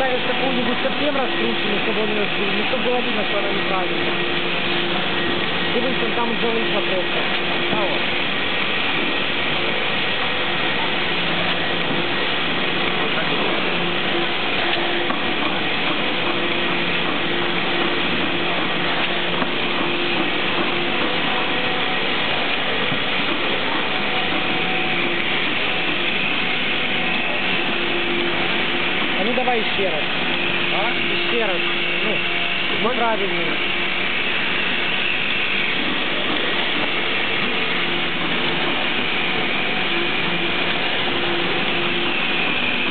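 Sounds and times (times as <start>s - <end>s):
conveyor machinery running: 0.0s - 42.9s.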